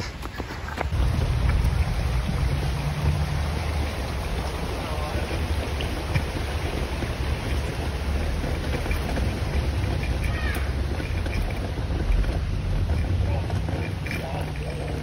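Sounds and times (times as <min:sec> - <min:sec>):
wind buffeting microphone: 0:00.0 - 0:14.4
footsteps on wooden planks: 0:00.0 - 0:15.0.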